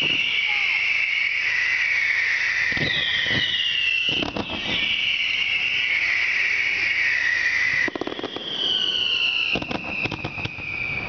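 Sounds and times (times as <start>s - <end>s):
fireworks booming: 0.0s - 11.0s
shrill falling whine: 0.0s - 11.0s.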